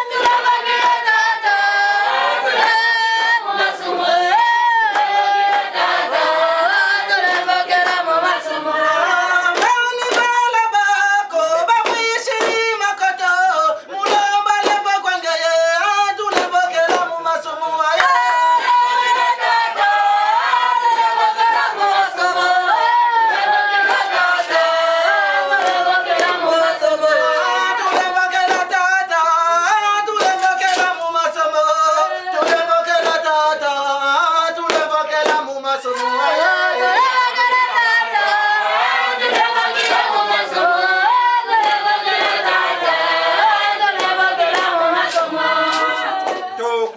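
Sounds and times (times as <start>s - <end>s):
handclaps: 0.0s - 1.6s, 3.6s - 8.4s, 9.3s - 36.2s, 36.9s - 46.6s
group singing without instruments: 0.0s - 46.9s.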